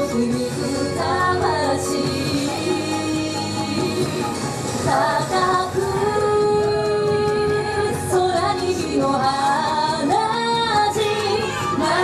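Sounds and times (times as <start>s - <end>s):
dance music: 0.0s - 12.0s
woman singing: 0.0s - 12.0s.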